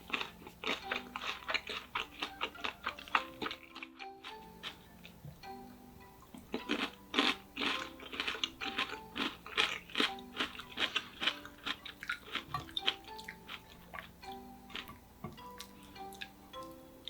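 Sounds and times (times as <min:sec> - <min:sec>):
crunching crispy fried pork: 0:00.0 - 0:05.2, 0:06.5 - 0:16.3
soft background music: 0:00.0 - 0:17.0.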